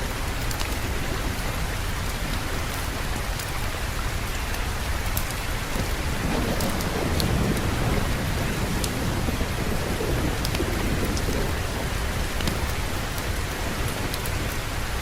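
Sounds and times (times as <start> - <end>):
heavy rain: 0.0 - 15.0
low rumble of thunder: 0.0 - 15.0.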